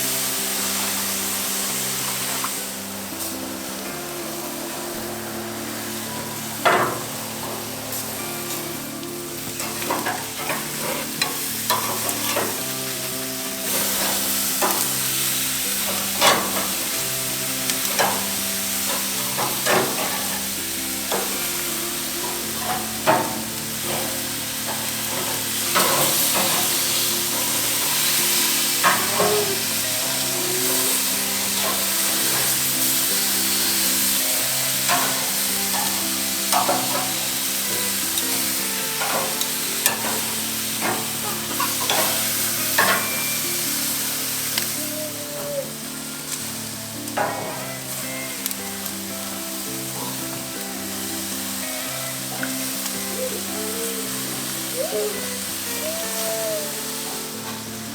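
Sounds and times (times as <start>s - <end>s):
background music: 0.0s - 57.9s
food sizzling in a pan: 0.0s - 57.9s.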